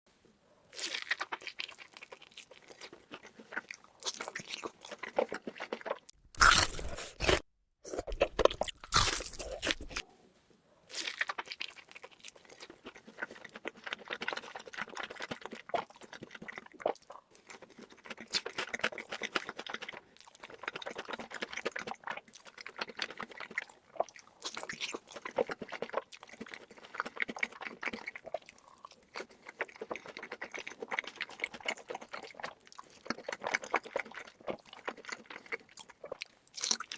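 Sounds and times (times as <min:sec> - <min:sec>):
chewing and crunching food: 0:00.5 - 0:10.2, 0:10.8 - 0:36.9.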